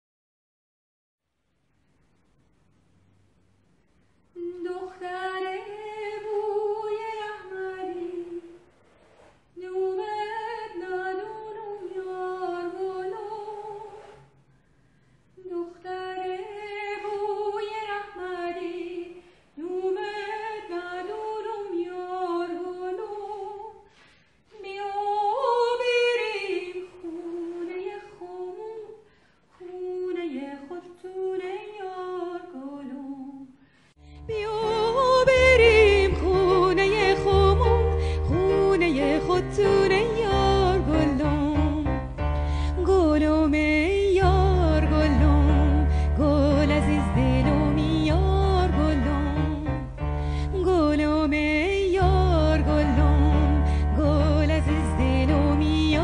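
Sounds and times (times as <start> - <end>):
woman singing unaccompanied: 4.4 - 8.6, 9.6 - 14.0, 15.4 - 23.8, 24.5 - 29.0, 29.6 - 33.6, 34.2 - 42.0, 42.7 - 49.8, 50.5 - 56.0.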